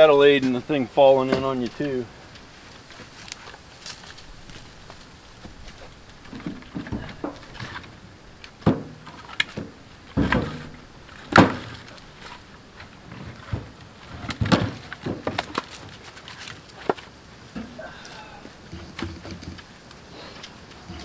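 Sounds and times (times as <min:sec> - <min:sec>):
firewood knocking and clunking: 0:01.2 - 0:21.0.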